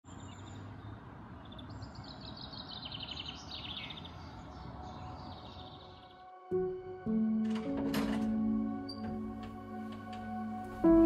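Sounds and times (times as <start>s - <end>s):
small birds singing: 0.0s - 10.6s.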